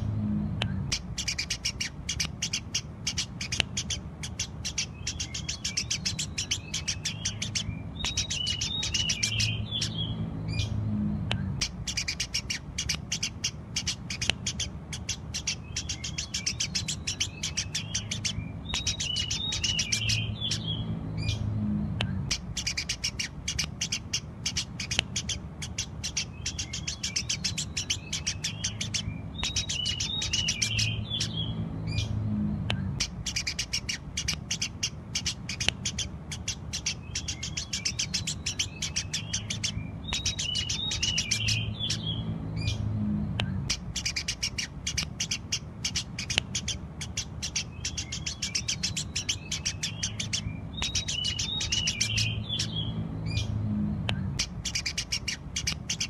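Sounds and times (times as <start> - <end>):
low hum: 0.0 - 3.4, 4.8 - 36.3, 36.9 - 44.9, 49.4 - 55.6
sparrows chirping: 0.0 - 56.0.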